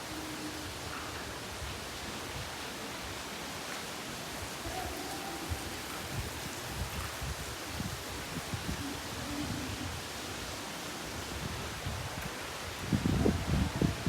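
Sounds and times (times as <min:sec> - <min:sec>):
hissing outdoor ambience: 0:00.0 - 0:14.0.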